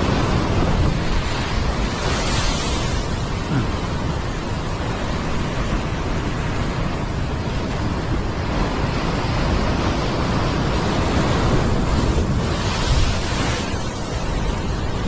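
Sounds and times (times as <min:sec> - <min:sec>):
ocean surf breaking on rocks: 0:00.0 - 0:15.0.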